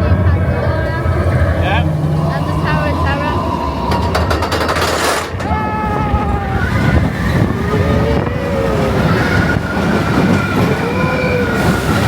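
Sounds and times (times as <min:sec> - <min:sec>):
gliding squeals: 0:00.0 - 0:12.0
roller coaster rumbling on track: 0:00.0 - 0:12.0.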